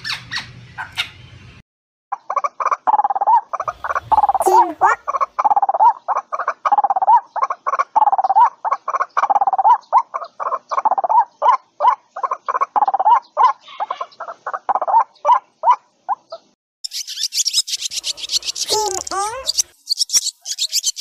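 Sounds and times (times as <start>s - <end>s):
waterhen calling: 2.2s - 21.0s.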